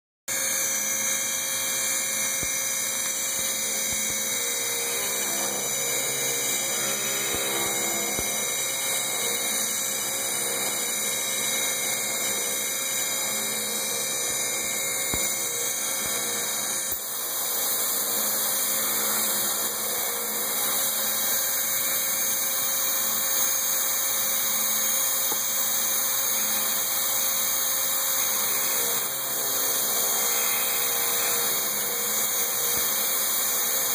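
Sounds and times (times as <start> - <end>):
metalworking machine tool running: 0.3 - 33.9.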